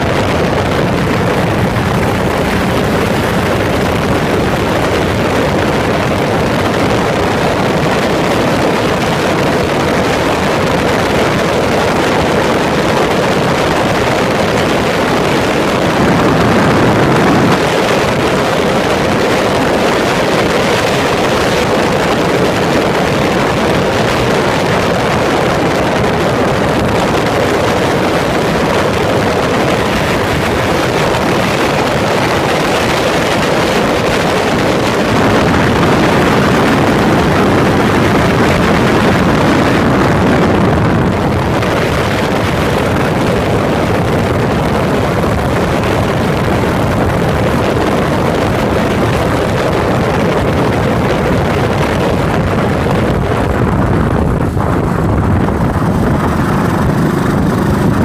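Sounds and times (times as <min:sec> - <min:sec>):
motorcycle engine running: 0:00.0 - 0:58.0
wind rush over microphone: 0:00.0 - 0:58.0.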